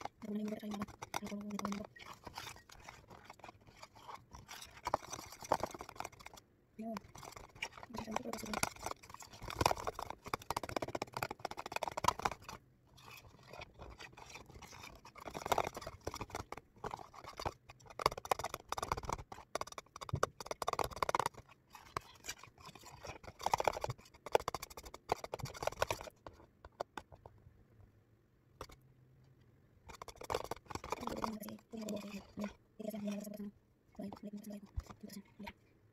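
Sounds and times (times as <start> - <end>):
spatula scraping plastic tub: 0.0 - 26.4, 29.9 - 33.4.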